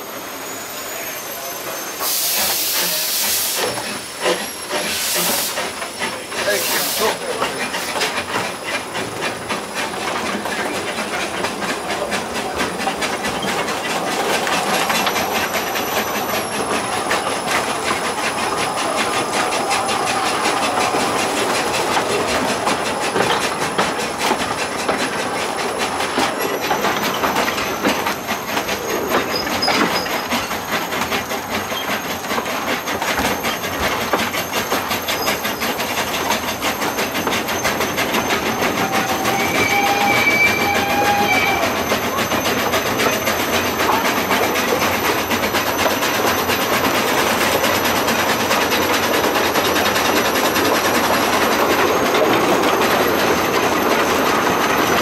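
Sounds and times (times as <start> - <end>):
steam hissing: 0.0 - 55.0
steam locomotive exhaust beats: 0.9 - 55.0.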